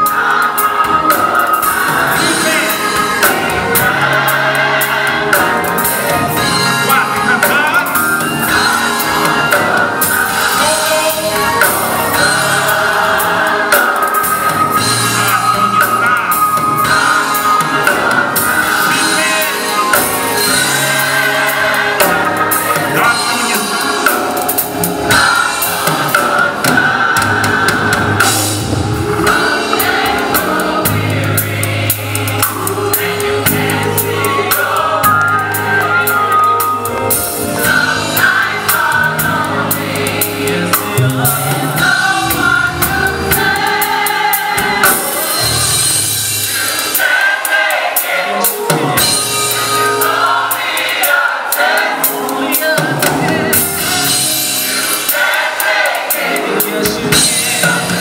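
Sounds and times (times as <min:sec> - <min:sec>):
drum kit: 0:00.0 - 0:58.0
gospel choir singing: 0:00.0 - 0:58.0.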